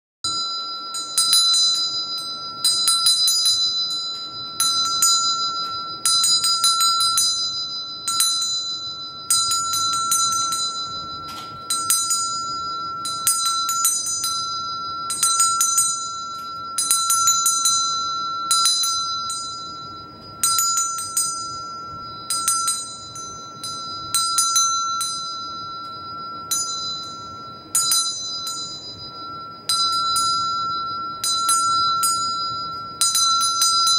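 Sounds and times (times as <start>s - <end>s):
hand bell ringing: 0.2s - 33.9s.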